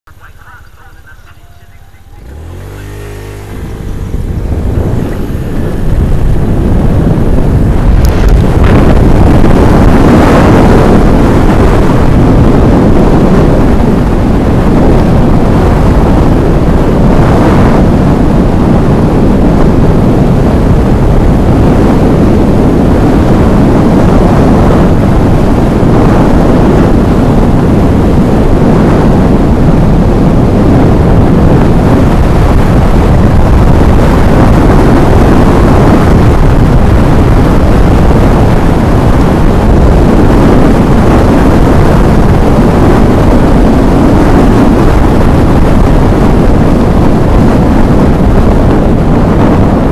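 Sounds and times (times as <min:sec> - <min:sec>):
motorbike engine: 0:00.1 - 0:49.9
wind rush on microphone: 0:00.1 - 0:49.9.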